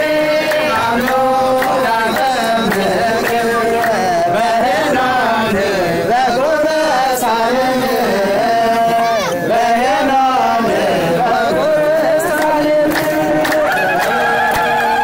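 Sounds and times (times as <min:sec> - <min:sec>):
person singing long notes: 0:00.0 - 0:15.0.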